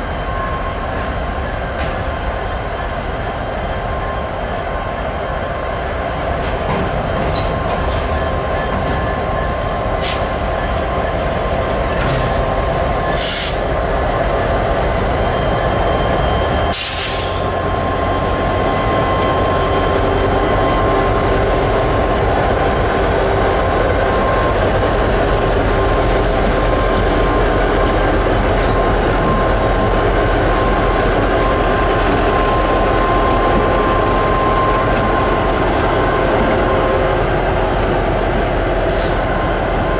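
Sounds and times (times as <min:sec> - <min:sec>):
locomotive engines rumbling: 0:00.0 - 0:39.9.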